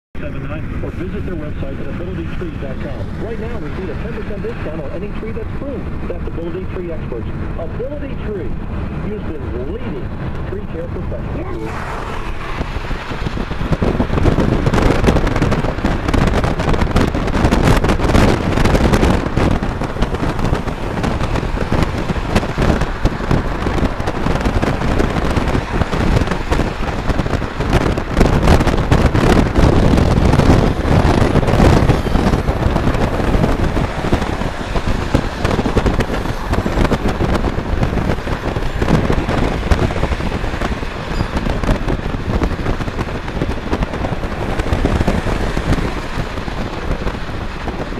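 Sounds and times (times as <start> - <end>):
road noise: 0.1 - 47.9
wind buffeting microphone: 0.2 - 47.9.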